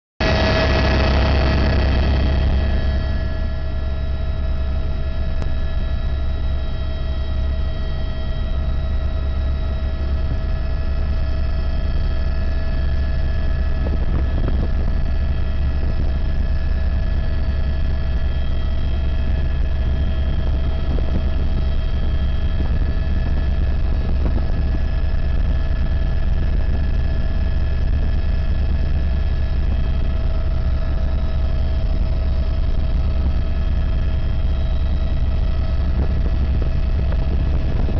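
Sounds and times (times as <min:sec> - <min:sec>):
helicopter engine and rotor rumble: 0:00.2 - 0:37.9.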